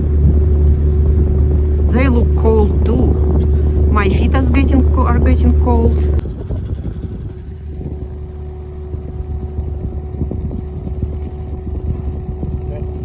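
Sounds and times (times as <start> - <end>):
diesel boat engine rumbling: 0.0 - 13.0
wind buffeting the microphone: 0.0 - 13.0.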